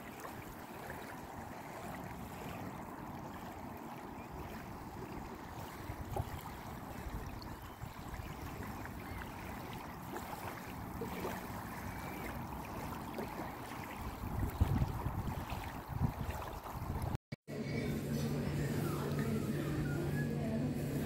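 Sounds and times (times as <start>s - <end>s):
small waves lapping on pebbles: 0.0s - 17.1s.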